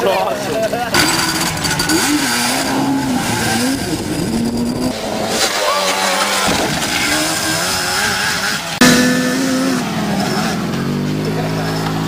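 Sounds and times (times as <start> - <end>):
car engine revving hard: 0.9 - 12.0.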